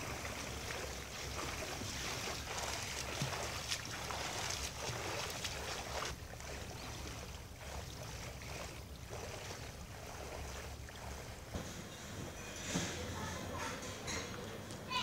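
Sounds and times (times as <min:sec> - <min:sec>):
swimming splashes: 0:00.0 - 0:15.0.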